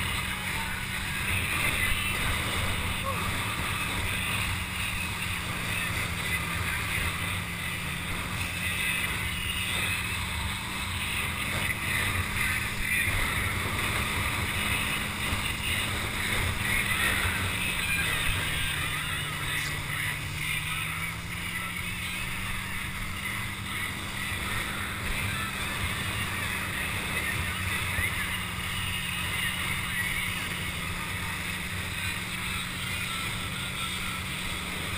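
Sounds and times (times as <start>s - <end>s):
boat engine hum: 0.0s - 34.9s.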